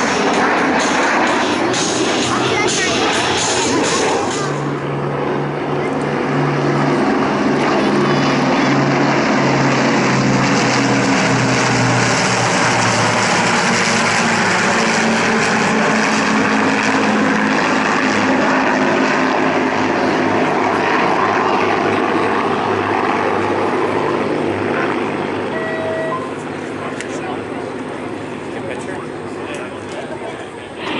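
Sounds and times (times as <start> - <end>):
propeller airplane engine drone: 0.0 - 30.9.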